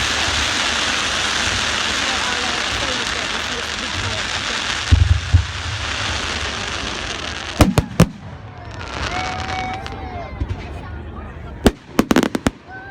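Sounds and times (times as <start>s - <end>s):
fireworks crackling hiss: 0.0s - 10.8s, 11.6s - 12.9s
fireworks deep booms: 0.0s - 10.9s, 11.6s - 12.9s
fireworks sharp bangs: 0.0s - 10.9s, 11.5s - 12.9s.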